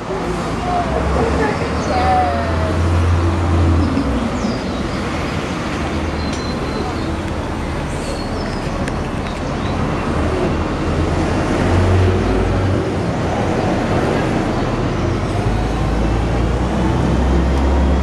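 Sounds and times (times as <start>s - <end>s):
passing vehicles: 0.0s - 18.0s.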